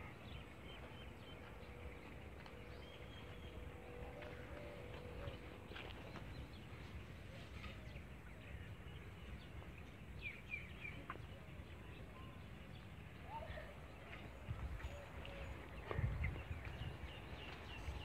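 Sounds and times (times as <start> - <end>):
low rumble of wind: 0.0 - 18.0.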